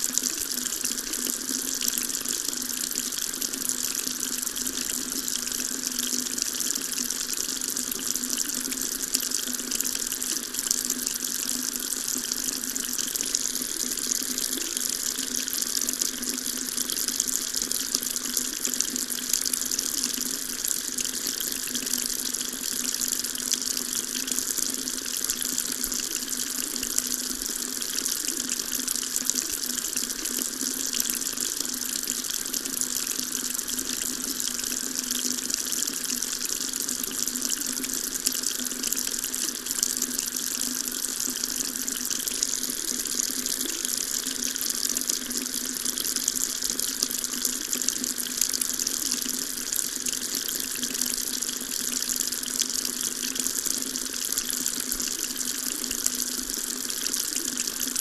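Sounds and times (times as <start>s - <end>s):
water tap running: 0.0s - 58.0s.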